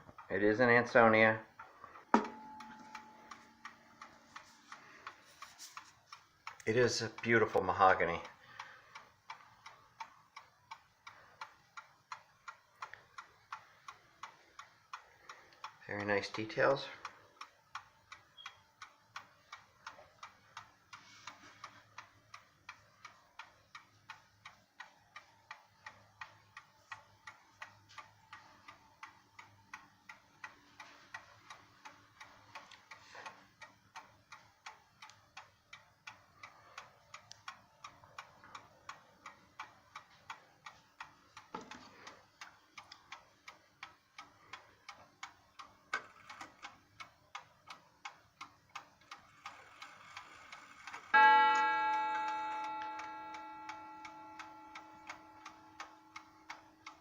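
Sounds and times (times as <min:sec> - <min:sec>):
clock ticking: 0:00.0 - 0:57.0.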